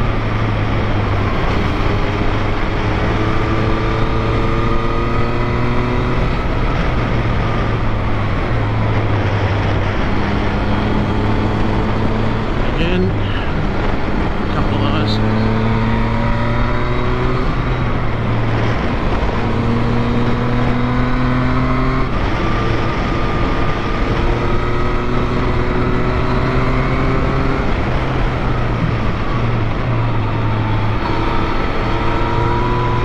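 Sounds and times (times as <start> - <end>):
heavy wind noise: 0.0 - 33.0.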